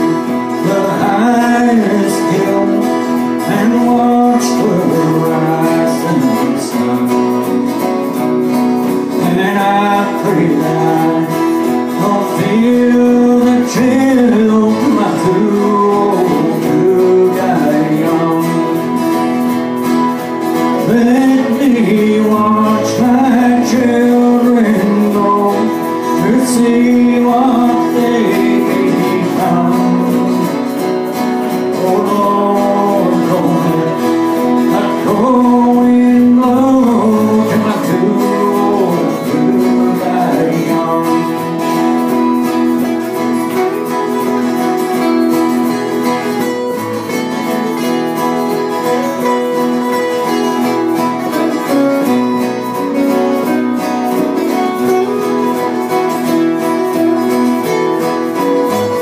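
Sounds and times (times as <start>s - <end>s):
acoustic guitars playing: 0.0s - 59.0s.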